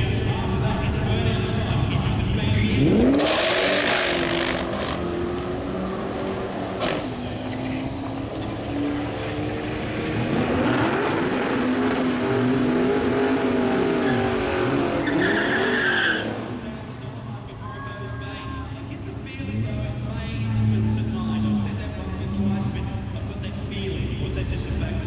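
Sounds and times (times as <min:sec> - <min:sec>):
car engine at full throttle: 0:00.0 - 0:17.6, 0:18.5 - 0:25.0.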